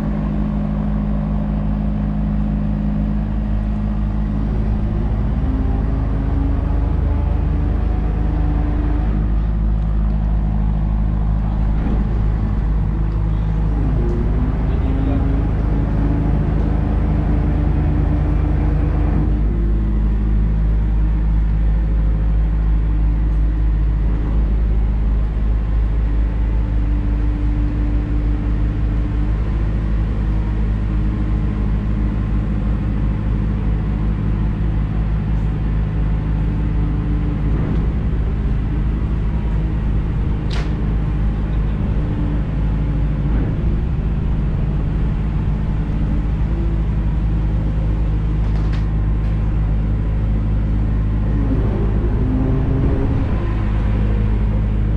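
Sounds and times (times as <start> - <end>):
boat diesel engine idling: 0.0 - 54.9.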